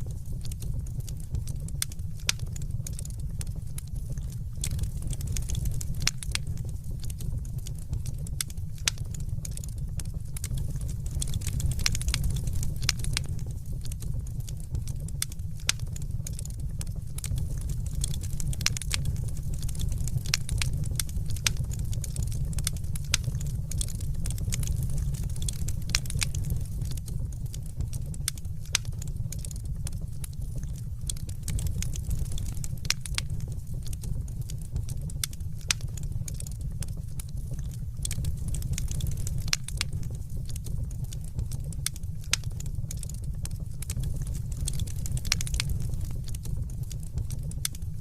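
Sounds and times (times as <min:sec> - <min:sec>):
fire crackling in a fireplace: 0:00.0 - 0:48.0.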